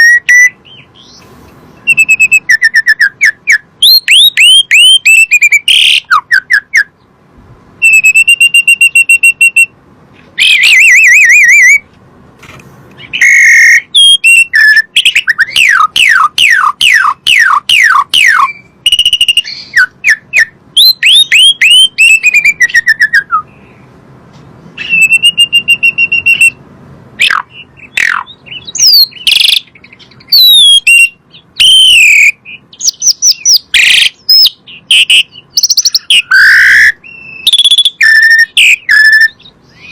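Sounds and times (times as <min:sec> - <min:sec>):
starling singing: 0:00.0 - 0:07.2, 0:07.8 - 0:09.8, 0:10.4 - 0:11.9, 0:13.0 - 0:24.0, 0:24.7 - 0:26.6, 0:27.2 - 0:39.9.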